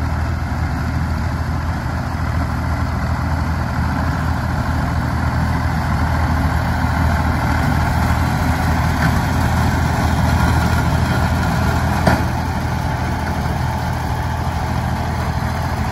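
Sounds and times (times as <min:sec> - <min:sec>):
tractor engine running under load: 0:00.0 - 0:15.9.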